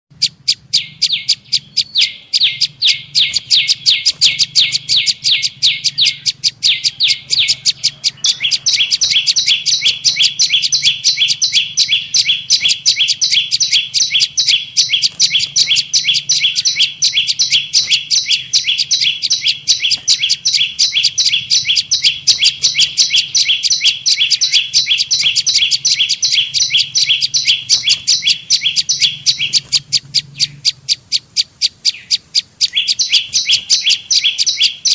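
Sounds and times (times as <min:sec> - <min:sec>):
sharp high bird chirps: 0:00.1 - 0:34.9
faint low hum: 0:00.2 - 0:34.9.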